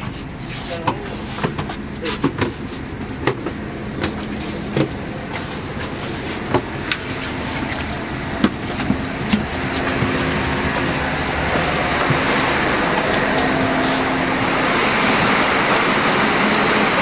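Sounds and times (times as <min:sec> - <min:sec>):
bus engine and road drone: 0:00.0 - 0:17.0.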